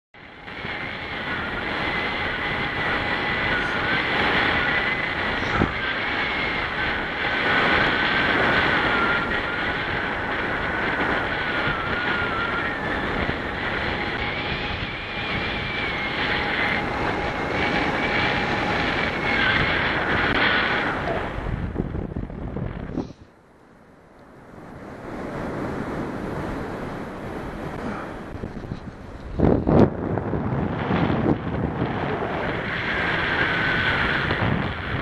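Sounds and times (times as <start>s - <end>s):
wind rushing over microphone: 0.2s - 35.0s.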